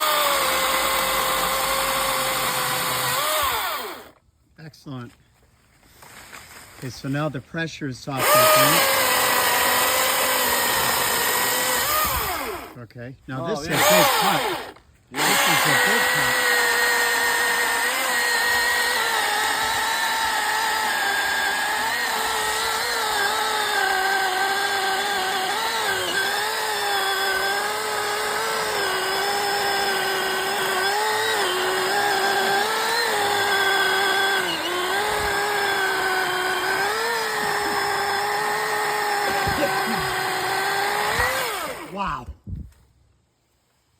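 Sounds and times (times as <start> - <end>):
electric chainsaw cutting wood: 0.0 - 4.2, 8.1 - 12.8, 13.4 - 42.2.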